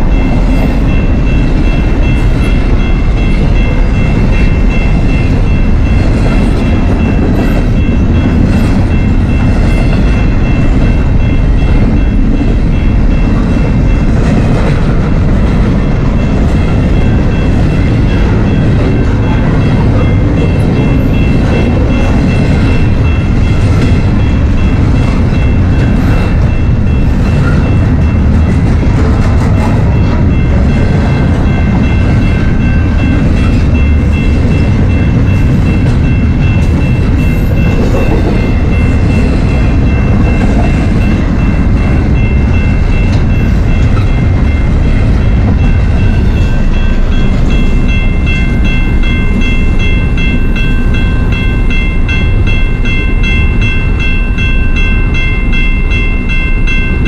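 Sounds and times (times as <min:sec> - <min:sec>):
crossing warning bell ringing: 0:00.0 - 0:57.0
train wheels rumbling on rails: 0:00.0 - 0:57.0.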